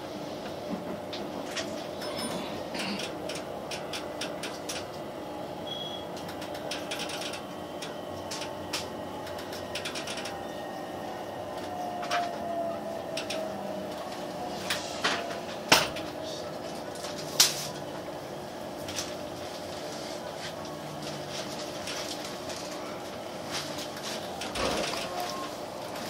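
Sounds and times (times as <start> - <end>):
train running hum: 0.0 - 26.0.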